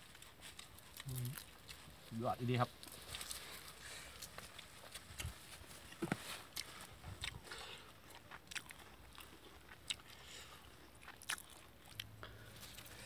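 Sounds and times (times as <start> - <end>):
man chewing food: 0.0 - 2.1, 2.7 - 13.0.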